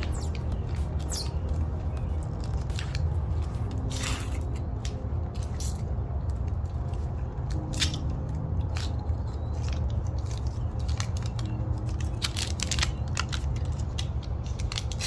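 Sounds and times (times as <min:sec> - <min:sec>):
battery crinkling and scraping: 0:00.0 - 0:15.0
steady low hum: 0:00.0 - 0:15.0.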